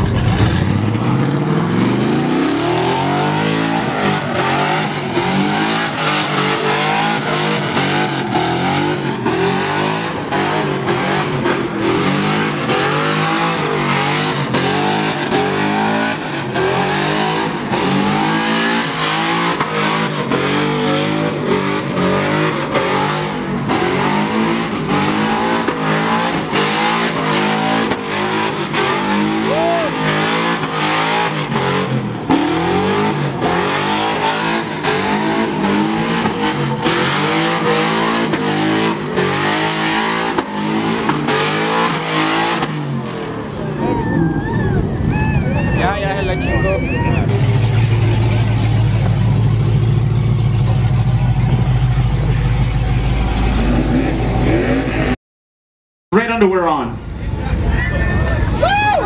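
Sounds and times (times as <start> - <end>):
truck engine revving hard: 0.0 - 43.9, 45.8 - 55.2.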